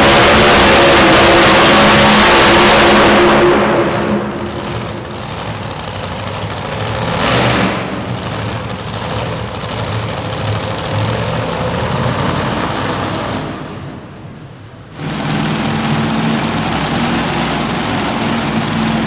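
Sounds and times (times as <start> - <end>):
truck engine running loud: 0.0 - 19.0.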